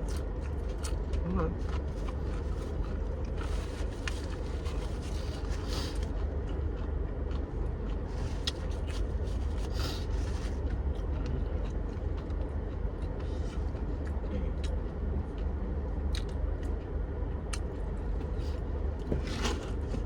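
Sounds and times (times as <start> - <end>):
chewing crunchy taco shells: 0.0 - 20.0
steady low rumble: 0.0 - 20.0.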